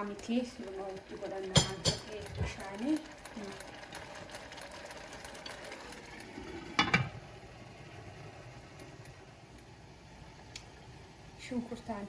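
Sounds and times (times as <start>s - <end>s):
sauce simmering in a pot: 0.0s - 12.0s.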